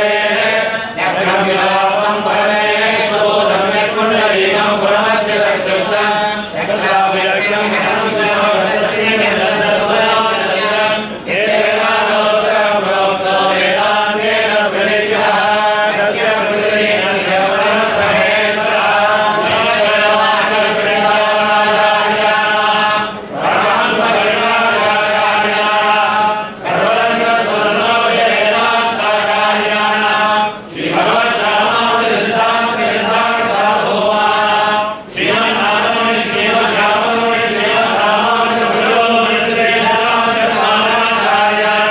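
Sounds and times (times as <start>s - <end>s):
voices chanting: 0.0s - 41.9s.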